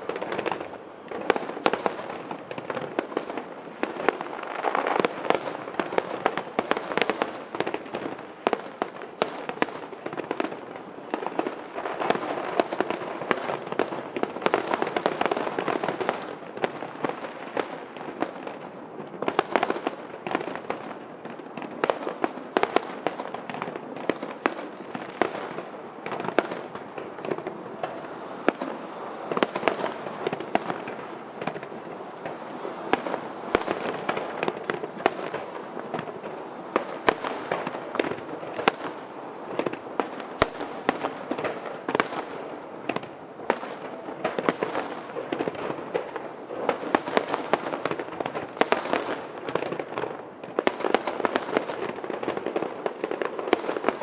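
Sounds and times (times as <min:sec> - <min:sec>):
firework bangs and pops: 0:00.0 - 0:54.0
firework crackle: 0:00.0 - 0:54.0.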